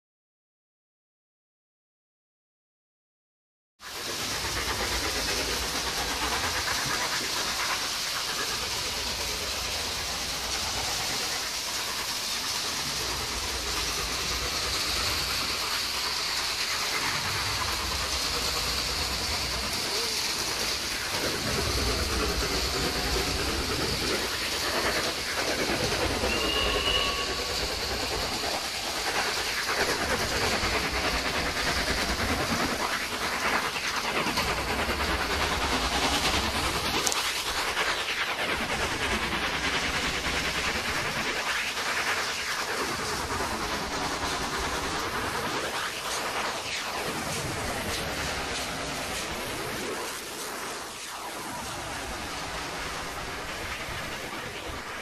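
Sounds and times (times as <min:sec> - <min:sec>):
clockwork toy train whirring: 0:03.8 - 0:55.0.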